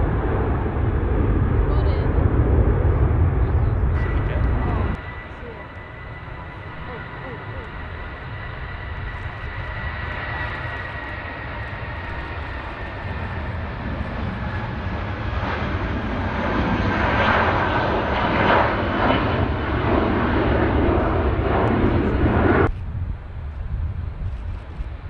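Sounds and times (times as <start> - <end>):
jet engines whining and rumbling: 0.0 - 25.0.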